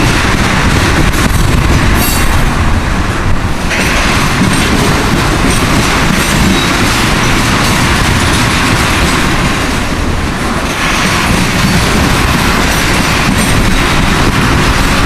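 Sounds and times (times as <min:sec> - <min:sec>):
freight train wheels clattering: 0:00.0 - 0:15.0.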